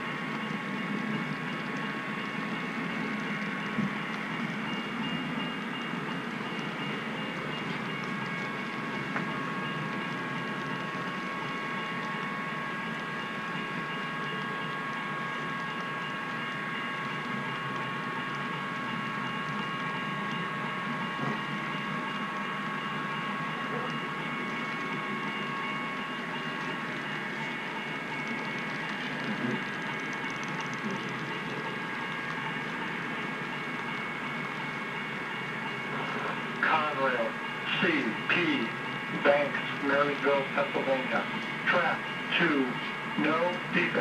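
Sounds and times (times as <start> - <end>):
model train cars rolling: 0.0 - 44.0.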